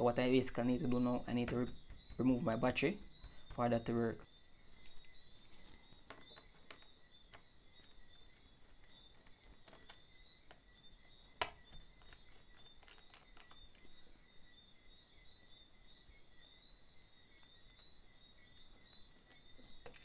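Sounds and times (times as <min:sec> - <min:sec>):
faint high chirping: 0:00.0 - 0:20.0.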